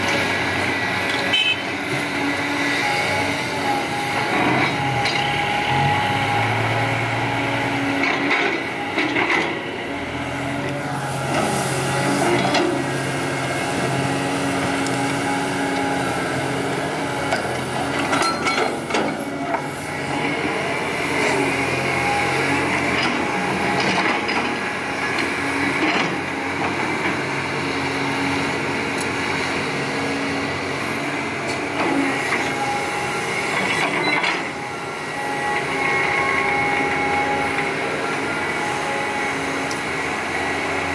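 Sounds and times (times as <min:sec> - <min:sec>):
excavator engine and hydraulics: 0:00.0 - 0:40.9.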